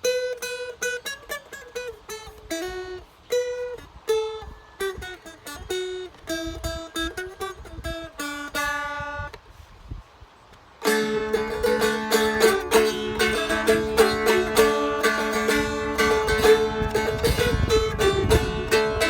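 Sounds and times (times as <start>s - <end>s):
strummed dulcimer melody: 0.0s - 9.3s, 10.8s - 19.0s
plucked dulcimer notes: 0.0s - 9.4s, 10.8s - 19.0s.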